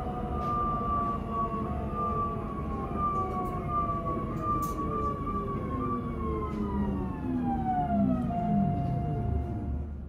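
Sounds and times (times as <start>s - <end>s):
low train running rumble: 0.0s - 10.0s
train traction motor whine: 0.0s - 10.0s.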